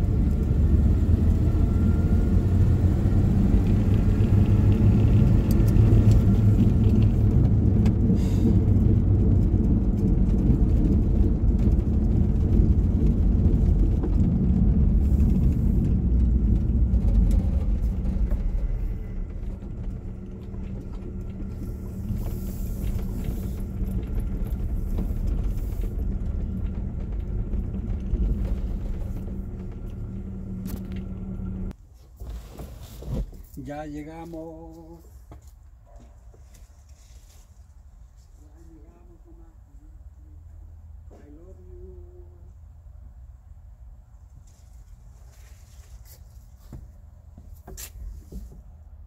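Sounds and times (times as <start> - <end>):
road and engine rumble: 0.0 - 49.0.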